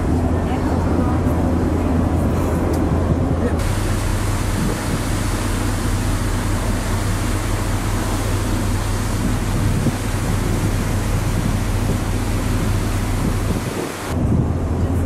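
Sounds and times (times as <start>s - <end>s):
ship engines humming: 0.0s - 15.0s
ship wake rushing: 0.0s - 15.0s.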